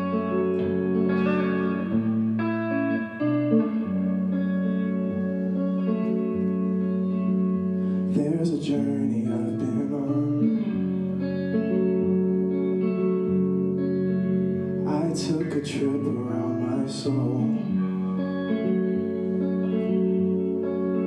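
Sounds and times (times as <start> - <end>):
electric guitar chords: 0.0 - 21.0.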